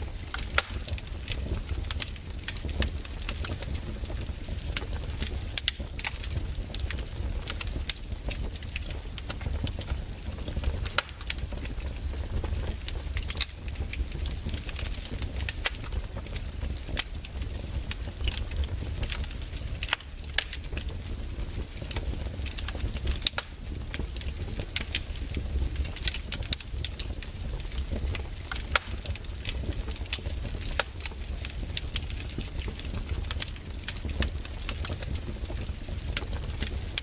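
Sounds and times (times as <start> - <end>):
low fire rumble: 0.0 - 37.0
wood fire crackling and popping: 0.0 - 37.0.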